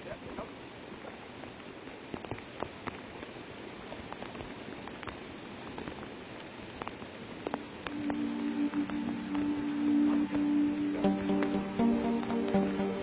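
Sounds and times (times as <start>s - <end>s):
rain hissing on a flooded road: 0.0s - 13.0s
rushing floodwater: 0.0s - 13.0s.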